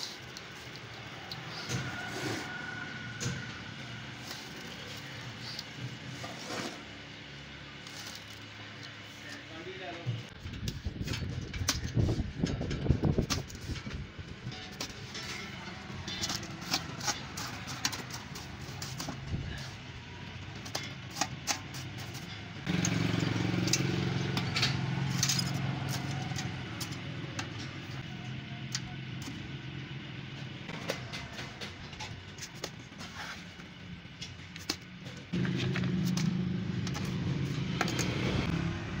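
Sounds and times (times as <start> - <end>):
low engine-like hum: 0.0 - 39.0.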